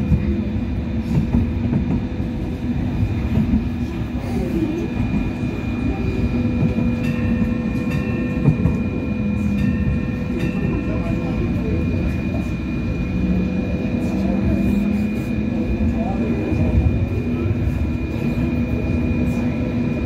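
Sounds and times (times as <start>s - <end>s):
rumble of wheels on rail: 0.0s - 20.0s.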